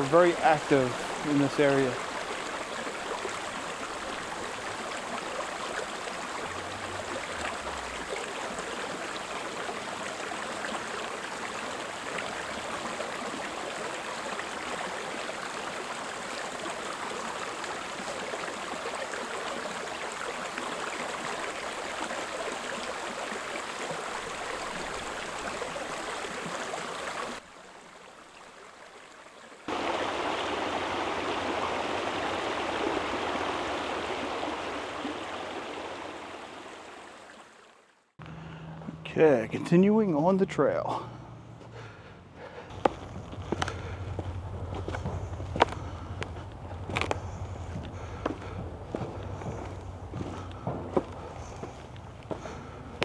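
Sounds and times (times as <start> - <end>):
creek water flowing: 0.0 - 53.0.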